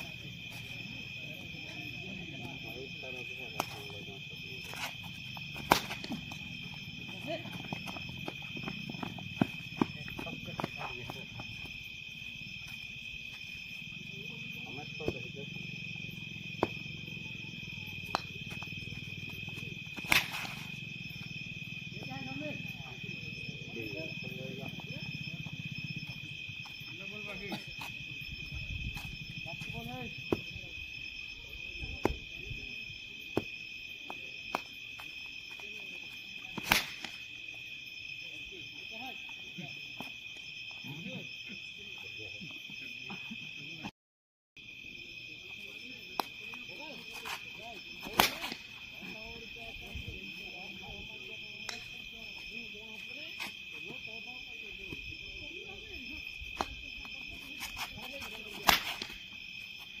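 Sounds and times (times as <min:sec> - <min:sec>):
crickets chirping: 0:00.0 - 0:43.9, 0:44.6 - 1:00.0.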